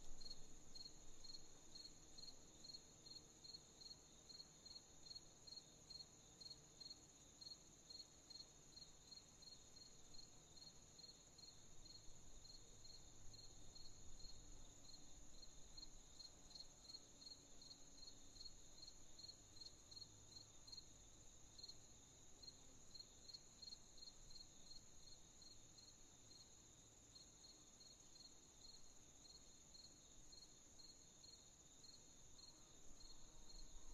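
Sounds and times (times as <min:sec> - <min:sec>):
even cricket chirps: 0:00.0 - 0:33.9.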